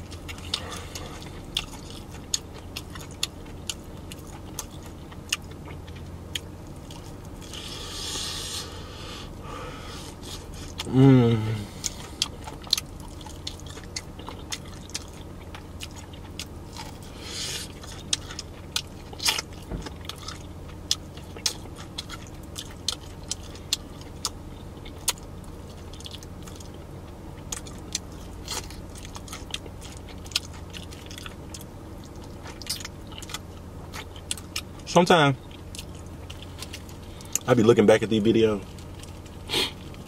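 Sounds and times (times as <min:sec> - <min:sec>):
chewing crispy chicken: 0:00.0 - 0:09.1, 0:09.9 - 0:40.0
steady low hum: 0:00.0 - 0:40.0.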